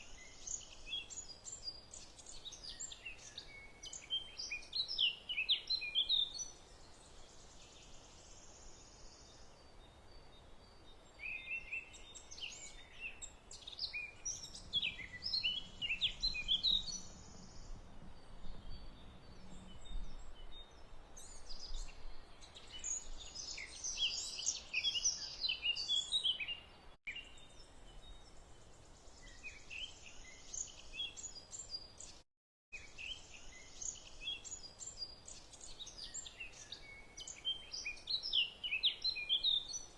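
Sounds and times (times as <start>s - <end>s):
faint background hiss: 0.0s - 32.2s, 32.8s - 39.9s
small birds chirping: 0.0s - 32.2s, 32.8s - 39.9s.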